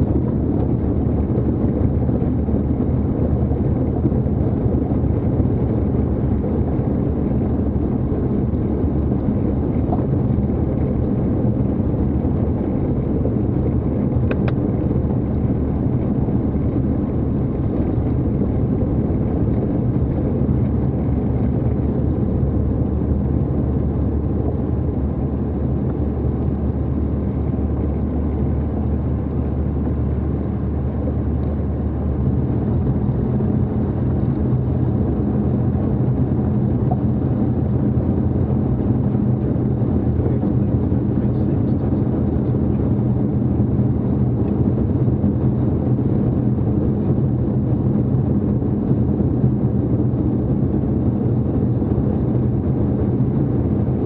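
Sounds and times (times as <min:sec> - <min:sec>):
aircraft engine running: 0:00.0 - 0:54.0.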